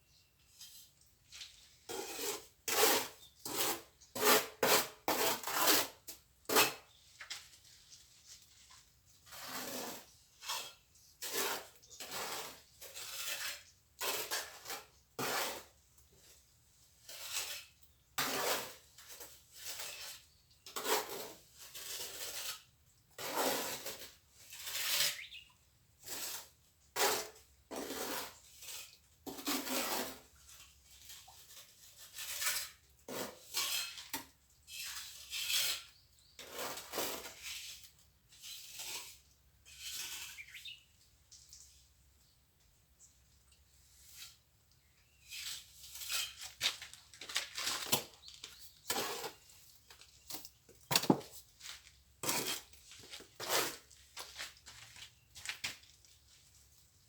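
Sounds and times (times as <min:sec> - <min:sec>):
trowel scraping cement mortar: 0:01.7 - 0:07.0, 0:09.2 - 0:15.8, 0:17.0 - 0:25.4, 0:26.0 - 0:40.8, 0:43.9 - 0:54.6.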